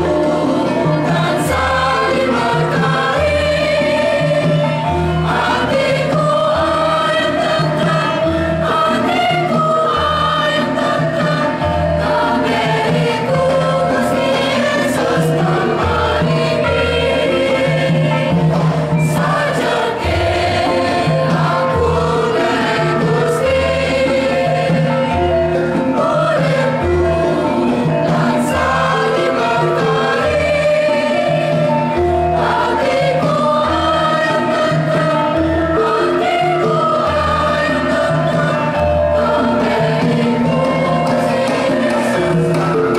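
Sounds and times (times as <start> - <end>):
choir singing a hymn: 0.0 - 42.9
gamelan: 0.0 - 42.9.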